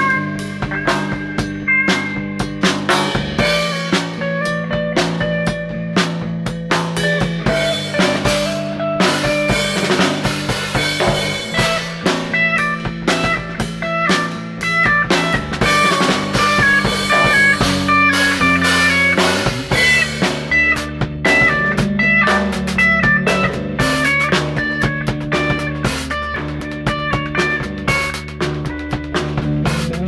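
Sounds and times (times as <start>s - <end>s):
bass guitar: 0.0s - 30.0s
drum kit with cymbals: 0.0s - 30.0s
guitar melody: 0.0s - 30.0s.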